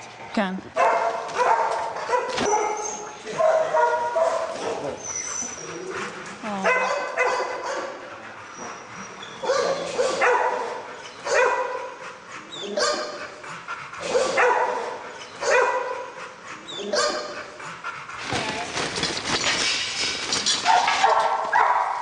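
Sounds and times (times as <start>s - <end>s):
dogs barking: 0.8s - 18.3s, 20.5s - 22.0s.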